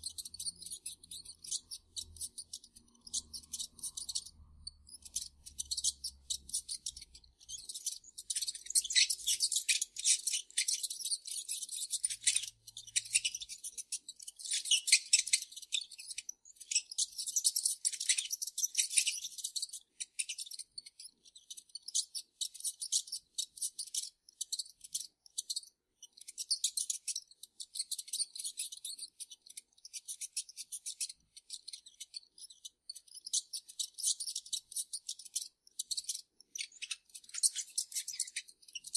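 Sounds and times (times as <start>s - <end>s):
mice squeaking: 0.0s - 38.9s.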